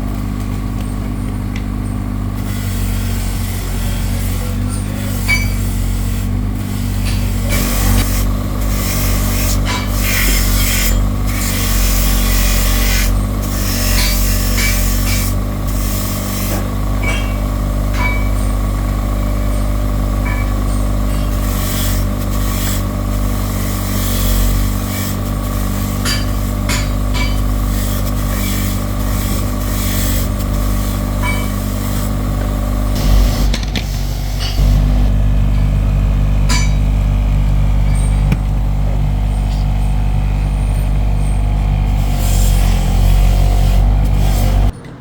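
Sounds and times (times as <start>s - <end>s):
workshop machinery humming: 0.0s - 45.0s.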